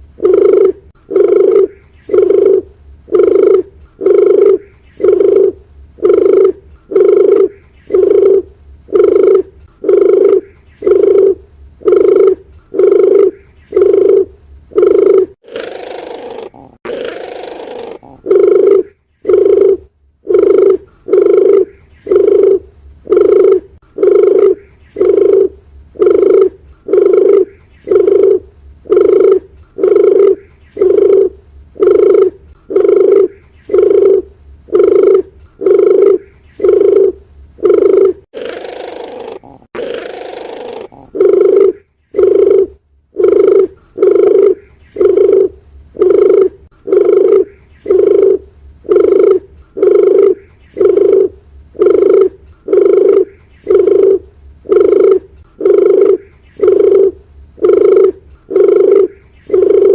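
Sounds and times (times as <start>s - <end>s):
dove cooing: 0.0s - 59.9s
noisy hiss: 0.0s - 59.9s.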